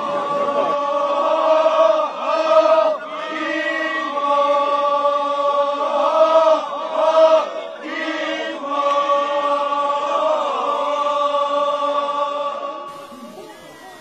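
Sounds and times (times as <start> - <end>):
group chanting: 0.0 - 14.0.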